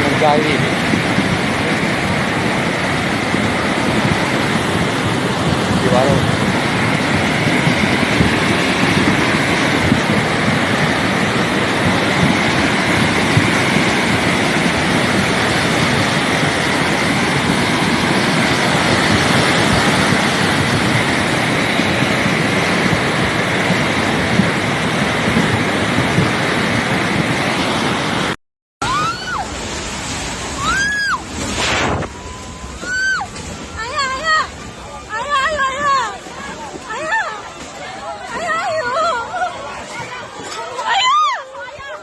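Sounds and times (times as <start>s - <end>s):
rushing floodwater: 0.0s - 42.0s.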